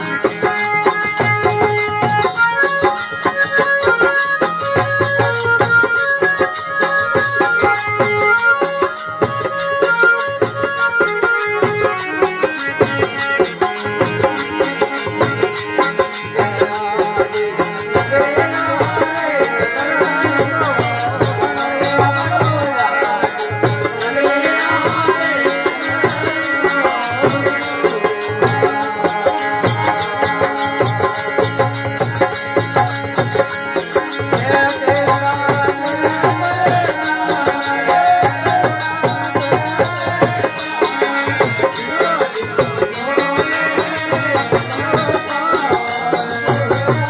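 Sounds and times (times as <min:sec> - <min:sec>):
folk devotional music melody: 0:00.0 - 0:47.0.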